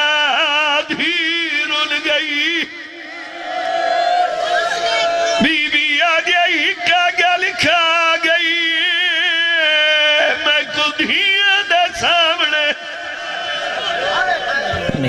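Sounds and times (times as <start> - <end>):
man chanting a lament: 0.0 - 3.1, 5.3 - 15.0.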